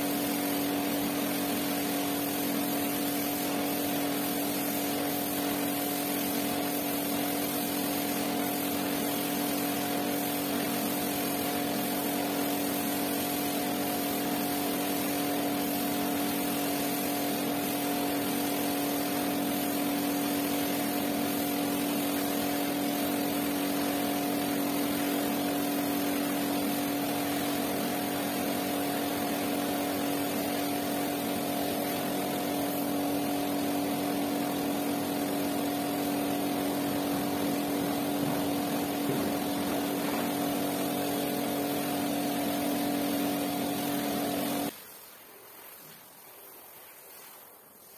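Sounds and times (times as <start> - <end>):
pressure washer humming: 0.0 - 44.7
water jet spraying a rug: 0.0 - 47.9.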